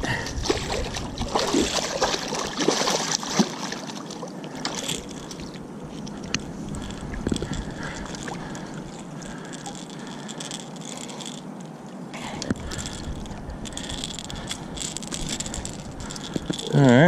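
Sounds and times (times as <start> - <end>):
river water rippling: 0.0 - 17.0.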